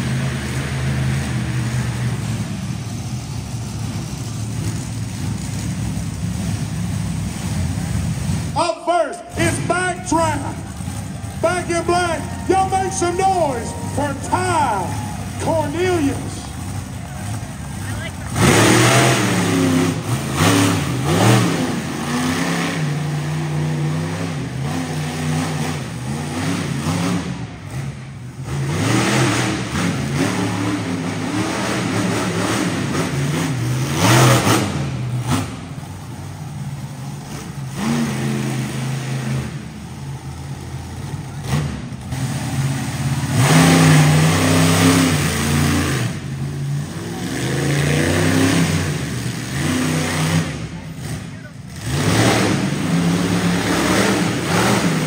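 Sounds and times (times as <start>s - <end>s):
monster truck engine revving: 0.0s - 55.0s.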